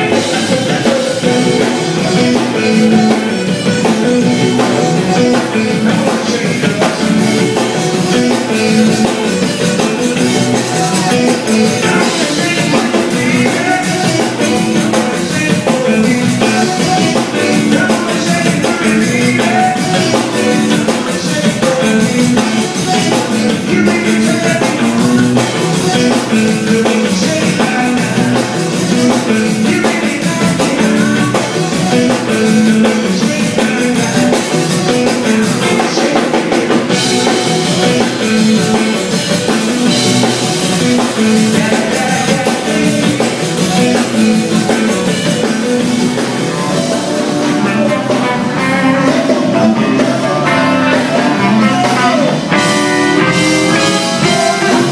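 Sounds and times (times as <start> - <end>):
live band playing: 0.0 - 54.9.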